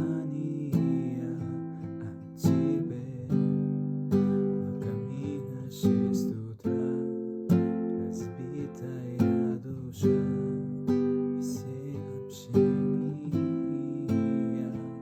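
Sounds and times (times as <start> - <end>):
strummed acoustic guitar chords: 0.0 - 15.0.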